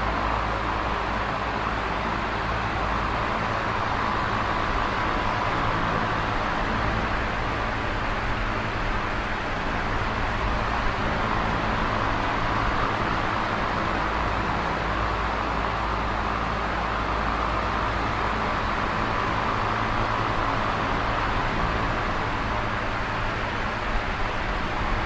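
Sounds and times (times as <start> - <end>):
electric fan whirring: 0.0 - 25.0.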